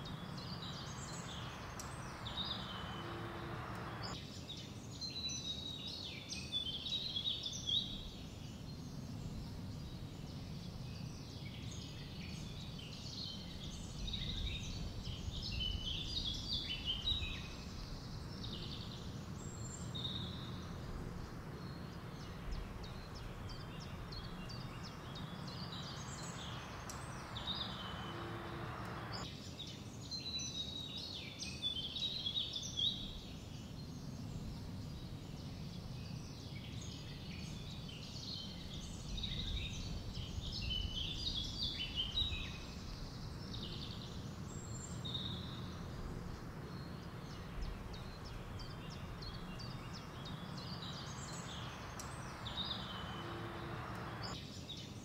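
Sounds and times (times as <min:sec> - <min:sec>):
low background noise: 0:00.0 - 0:55.0
small birds chirping: 0:00.0 - 0:55.0.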